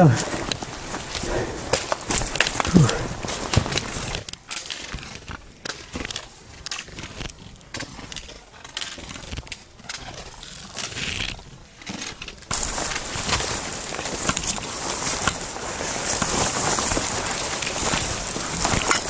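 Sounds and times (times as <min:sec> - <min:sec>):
footsteps on rocky trail: 0:00.0 - 0:08.5, 0:09.2 - 0:19.0.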